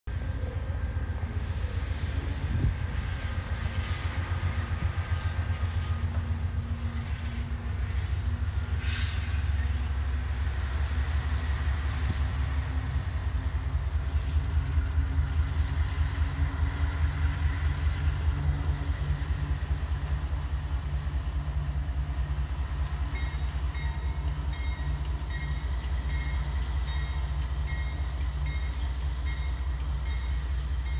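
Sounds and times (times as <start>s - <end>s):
diesel locomotives rumbling past: 0.0s - 30.9s.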